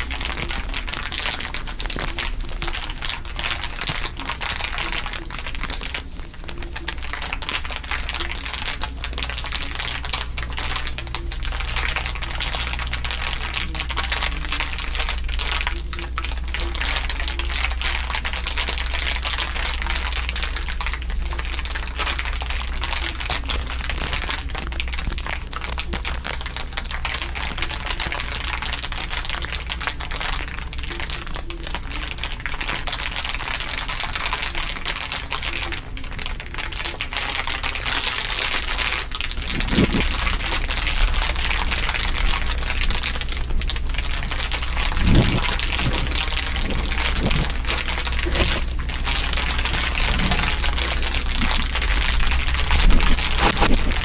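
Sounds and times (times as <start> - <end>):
continuous crinkling: 0.0 - 54.0
steady low hum: 0.0 - 54.0.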